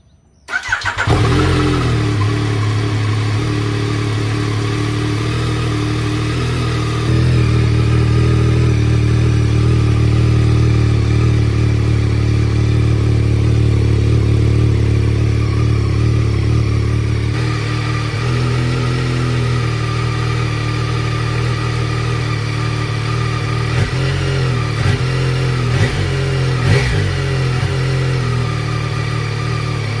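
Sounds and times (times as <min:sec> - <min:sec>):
motorcycle engine starting and idling: 0:00.5 - 0:30.0.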